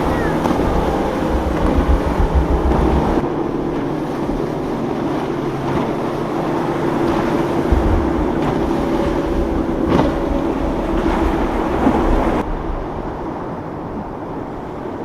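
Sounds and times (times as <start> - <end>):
motorboat engine droning: 0.0 - 15.0
surf and water noise: 0.0 - 15.0
wind buffeting microphone: 0.0 - 15.0.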